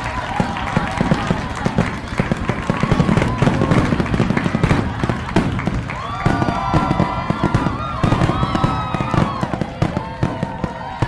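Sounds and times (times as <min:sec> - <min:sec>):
fireworks crackling and popping: 0:00.0 - 0:11.0
fireworks low booms: 0:00.0 - 0:11.0.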